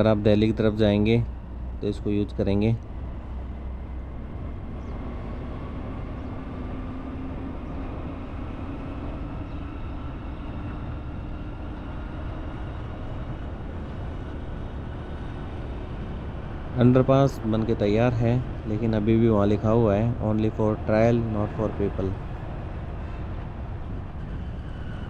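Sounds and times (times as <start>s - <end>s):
vehicle engine hum: 0.0s - 25.0s
wind rumble on microphone: 0.0s - 25.0s.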